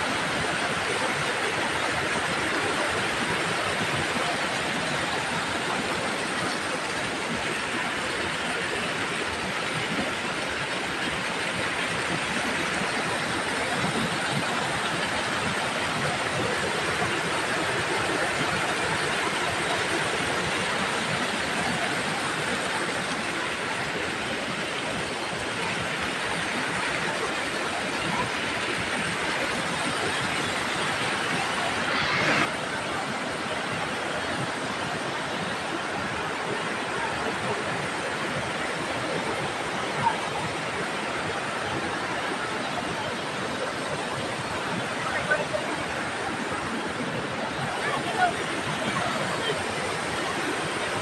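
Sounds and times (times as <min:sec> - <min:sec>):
waterfall rushing and splashing: 0:00.0 - 0:51.0.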